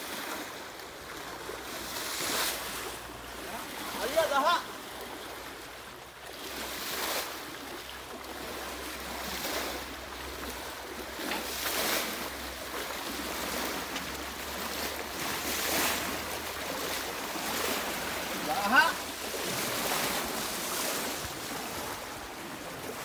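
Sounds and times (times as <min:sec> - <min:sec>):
shallow river rushing: 0:00.0 - 0:23.0.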